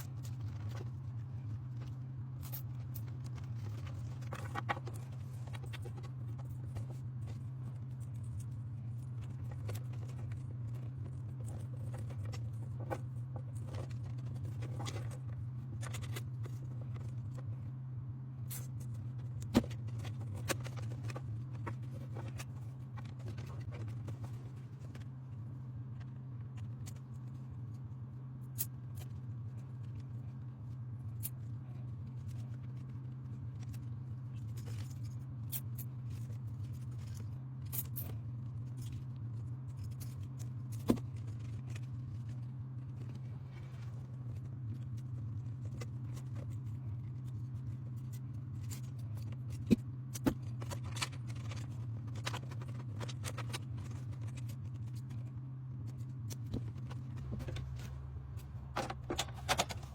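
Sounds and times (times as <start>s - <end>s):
small clicks and light scrapes: 0.0s - 17.6s, 18.4s - 59.9s
steady low hum: 0.0s - 59.9s.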